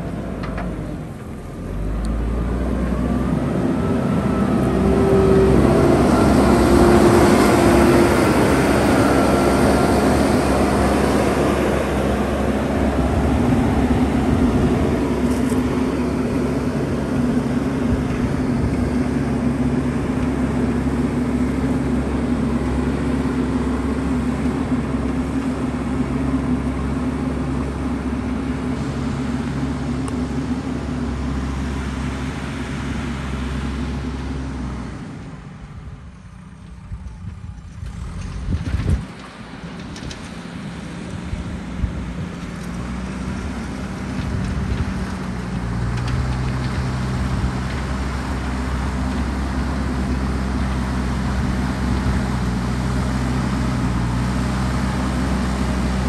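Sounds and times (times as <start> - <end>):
diesel engine running under load: 0.0 - 56.0
engine whine: 0.0 - 56.0.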